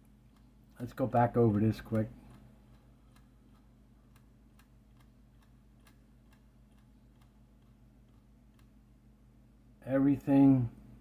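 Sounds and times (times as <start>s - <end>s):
faint regular ticking: 0.0s - 9.8s
low electrical hum: 0.0s - 11.0s.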